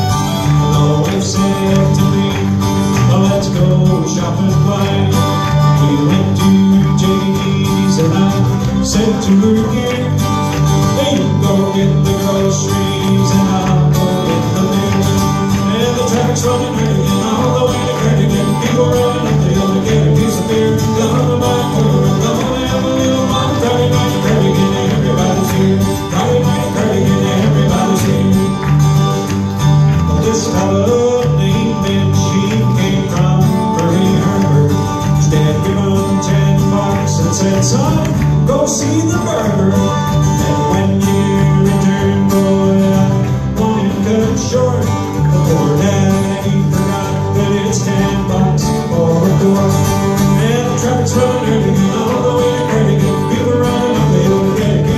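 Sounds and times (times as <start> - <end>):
bluegrass band playing: 0.0 - 54.9.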